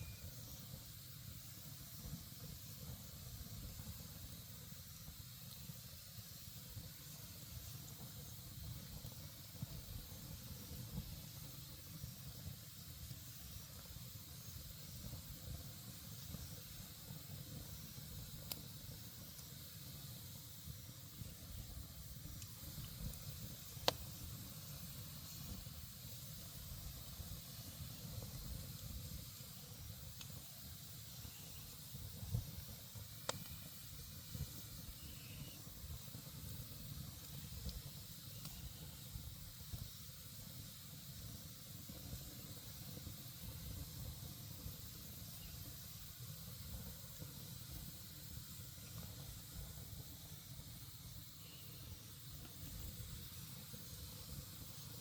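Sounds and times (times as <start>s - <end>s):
campfire crackles: 0.0s - 55.0s
campfire hiss and rumble: 0.0s - 55.0s.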